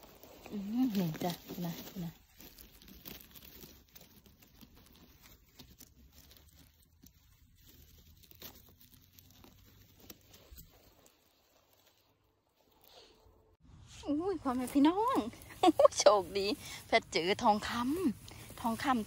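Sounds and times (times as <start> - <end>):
dry leaf litter rustling: 0.0 - 13.5, 14.1 - 19.0.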